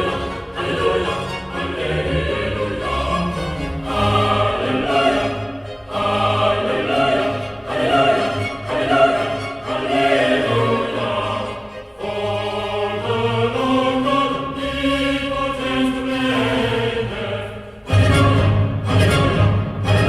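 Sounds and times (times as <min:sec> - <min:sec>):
choir singing long held notes: 0:00.0 - 0:20.0.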